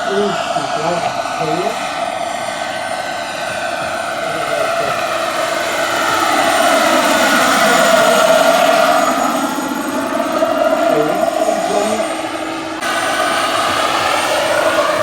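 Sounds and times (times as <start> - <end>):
helicopter rotor noise: 0.0 - 15.0
model helicopter turbine whine: 0.0 - 15.0.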